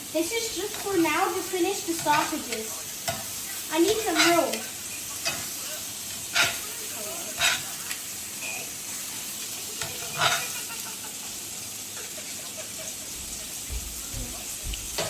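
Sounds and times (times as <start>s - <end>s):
sausages sizzling in a frying pan: 0.0s - 15.0s.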